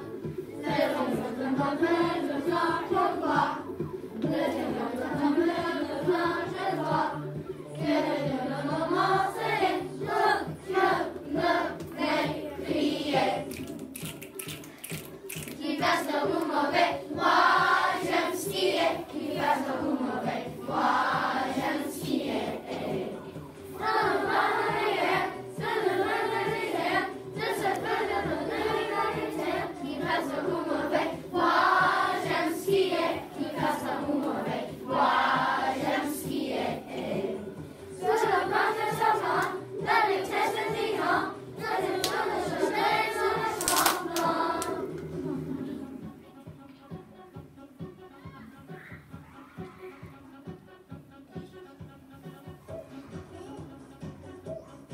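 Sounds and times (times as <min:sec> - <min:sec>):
children singing in unison: 0:00.0 - 0:13.6, 0:15.6 - 0:54.9.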